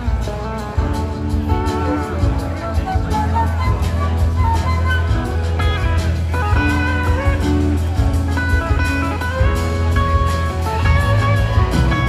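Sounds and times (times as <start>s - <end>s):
band playing blues ballad: 0.0s - 12.0s
lead electric guitar: 0.0s - 12.0s.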